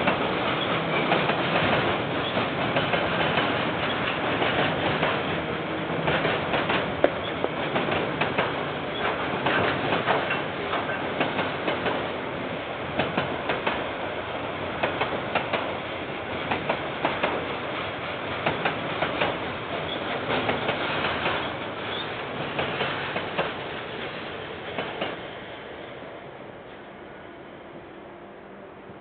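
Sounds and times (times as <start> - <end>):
wheels clacking over rail joints: 0.0 - 25.3
train wagons rumbling: 0.0 - 29.0.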